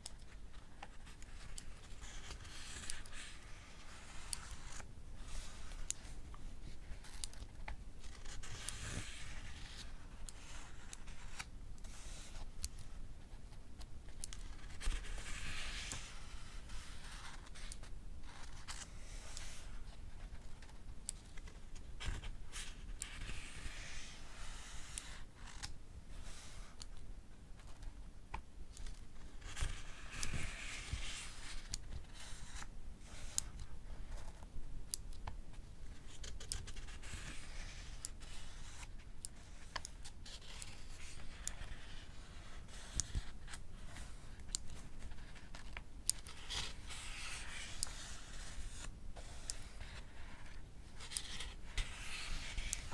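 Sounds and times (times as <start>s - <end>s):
book pages turning: 0.0s - 13.0s, 14.0s - 27.0s, 27.6s - 52.9s.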